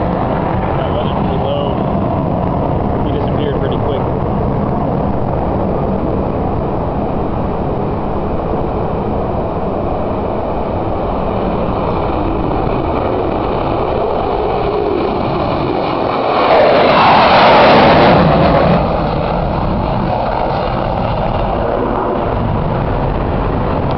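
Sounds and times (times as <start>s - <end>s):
jet afterburner roar: 0.0s - 23.9s.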